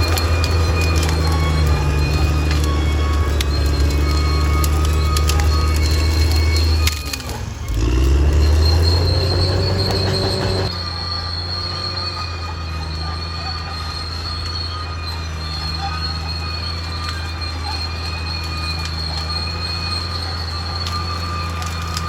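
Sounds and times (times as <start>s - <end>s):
bulldozer diesel engine: 0.0s - 22.0s
metallic squealing of steel tracks: 0.0s - 22.0s.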